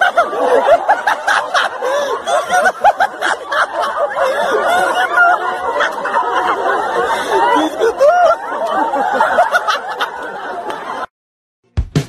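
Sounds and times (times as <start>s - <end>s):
crowd laughing and calling out: 0.0s - 11.1s.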